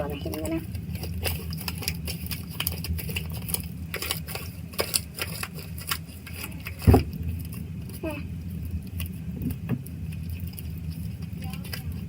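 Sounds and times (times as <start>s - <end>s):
slime squishing by hand: 0.0s - 12.0s
steady low hum: 0.0s - 12.0s.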